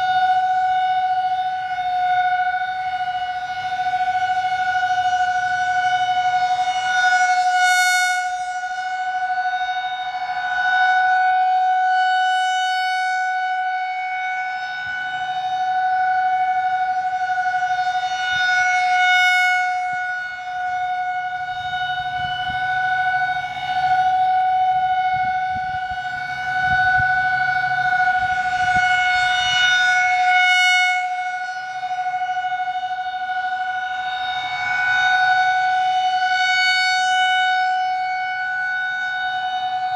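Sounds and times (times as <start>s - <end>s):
rotating storm siren: 0.0s - 39.9s.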